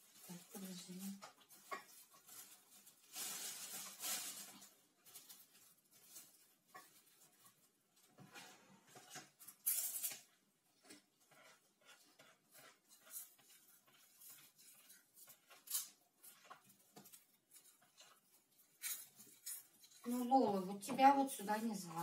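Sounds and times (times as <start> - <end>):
corn sticks rustling in a bowl: 0.0 - 22.0.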